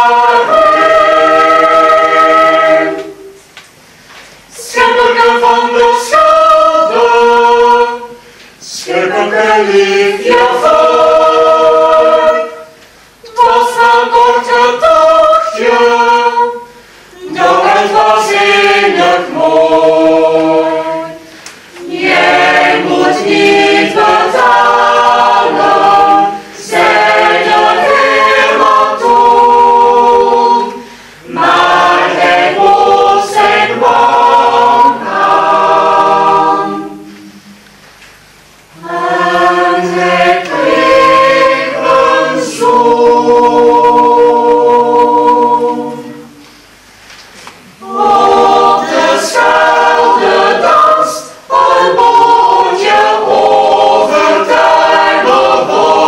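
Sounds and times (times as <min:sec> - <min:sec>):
choir singing a cappella: 0:00.0 - 0:03.5, 0:04.5 - 0:37.6, 0:38.7 - 0:46.8, 0:47.6 - 0:56.0.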